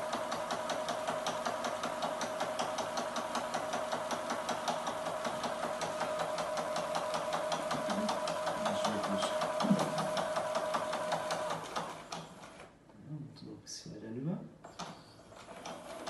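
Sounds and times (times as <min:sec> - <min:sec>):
sewing machine stitching: 0:00.0 - 0:12.8, 0:14.7 - 0:16.0.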